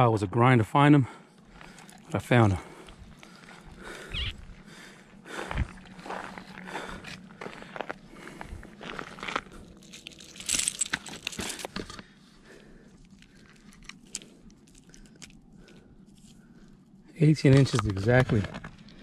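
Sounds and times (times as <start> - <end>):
gravel crunching and scraping: 1.4 - 19.0.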